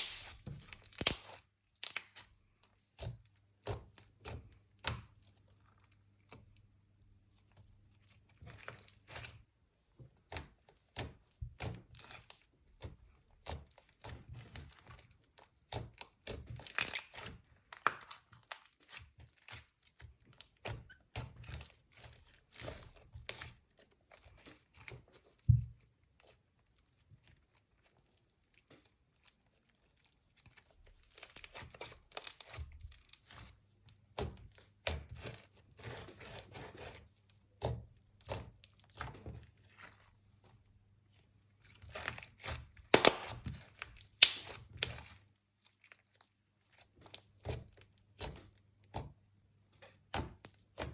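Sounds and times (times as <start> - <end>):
hands squishing sticky slime: 0.0 - 50.9.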